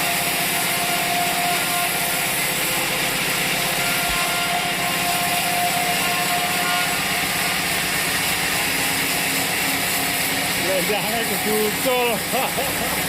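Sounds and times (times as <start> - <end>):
sawmill saw cutting log: 0.0 - 13.0.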